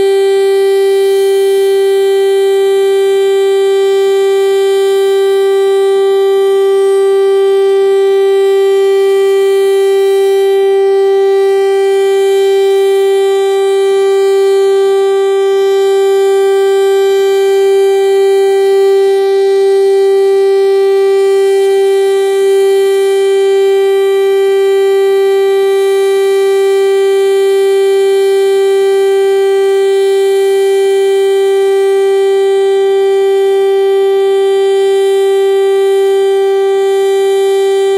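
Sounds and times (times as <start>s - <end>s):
warning siren steady tone: 0.0s - 37.9s.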